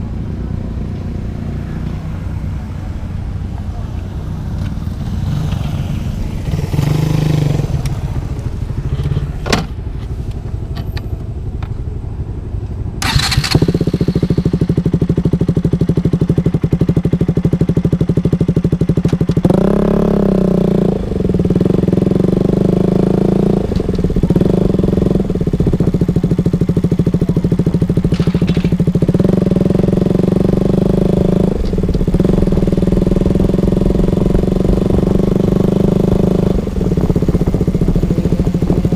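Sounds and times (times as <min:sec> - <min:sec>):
motorcycle engine idling: 0:02.2 - 0:19.6, 0:20.4 - 0:38.9
motorcycle engine starting: 0:04.3 - 0:38.9.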